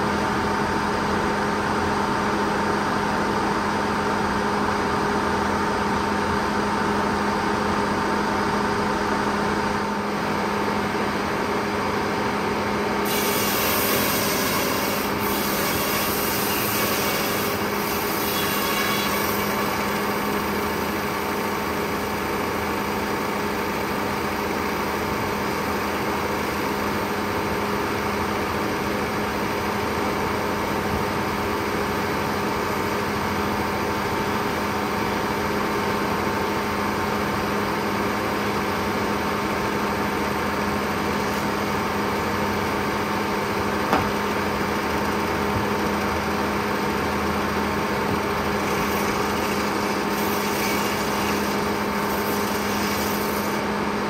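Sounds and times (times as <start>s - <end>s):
circular sawmill running: 0.0s - 54.0s.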